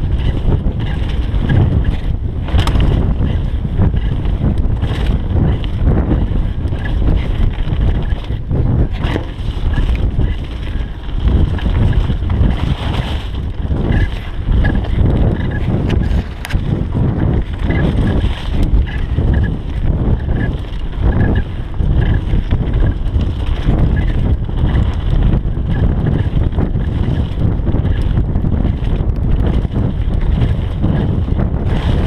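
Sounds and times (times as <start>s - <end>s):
bike rattles and knocks: 0.0s - 32.0s
tyres rumbling on dirt: 0.0s - 32.0s
wind buffeting microphone: 0.0s - 32.0s.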